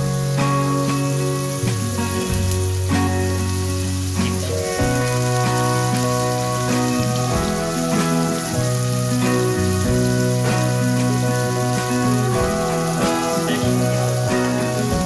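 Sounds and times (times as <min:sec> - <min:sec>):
background music with low notes: 0:00.0 - 0:15.0
vegetables sizzling in a frying pan: 0:00.0 - 0:15.0.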